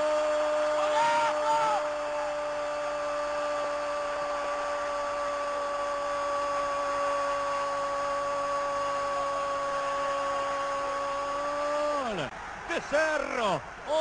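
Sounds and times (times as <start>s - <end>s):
constant tone: 0.0s - 14.0s
stadium crowd roaring: 0.0s - 14.0s.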